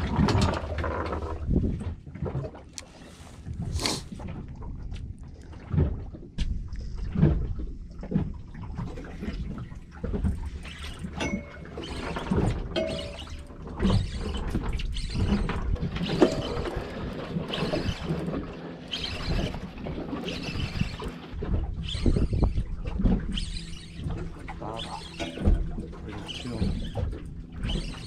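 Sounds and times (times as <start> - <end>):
water lapping against boat hull: 0.0 - 28.0.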